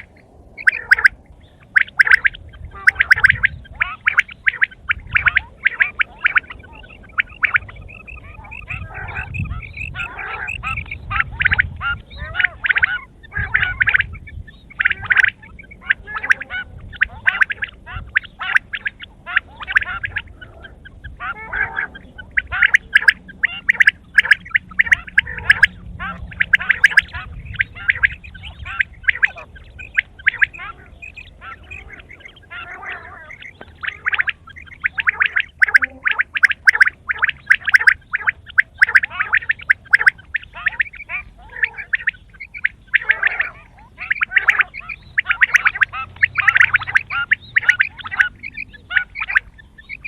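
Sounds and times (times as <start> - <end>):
quail chattering calls: 0.0 - 50.0.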